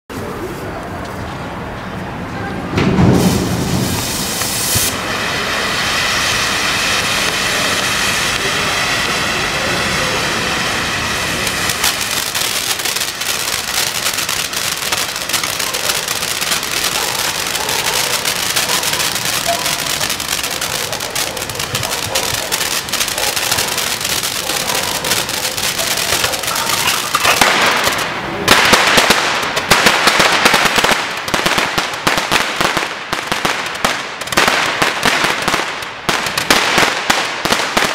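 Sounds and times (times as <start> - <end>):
firework crackling: 2.6 - 37.9
firework rushing hiss: 2.8 - 37.9.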